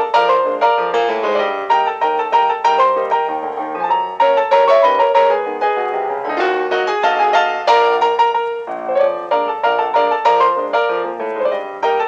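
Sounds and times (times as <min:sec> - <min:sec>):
solo piano playing quick runs: 0:00.0 - 0:12.0.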